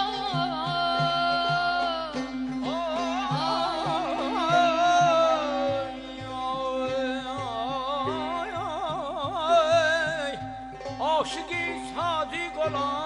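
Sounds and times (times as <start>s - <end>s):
ornamented melody over low beat: 0.0s - 13.0s.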